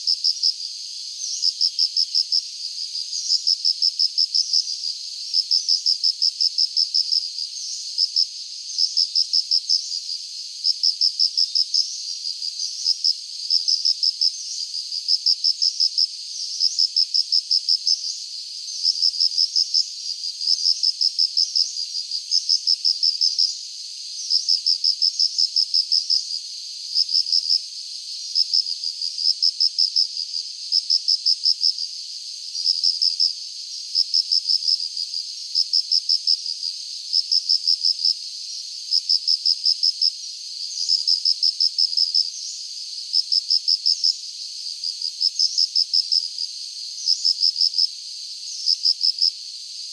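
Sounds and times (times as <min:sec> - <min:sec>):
faint insect chorus: 0:00.0 - 0:49.9
insects trilling: 0:00.0 - 0:49.9.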